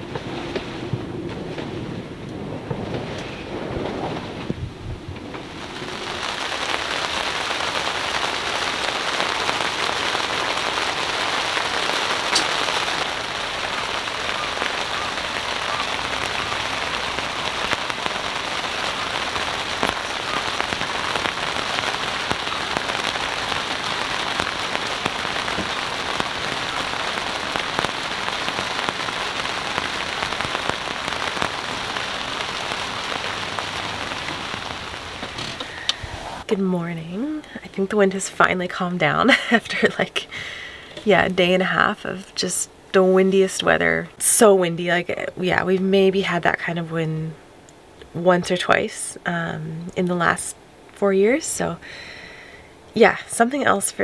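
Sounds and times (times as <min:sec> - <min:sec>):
rain falling on a boat: 0:00.0 - 0:54.0.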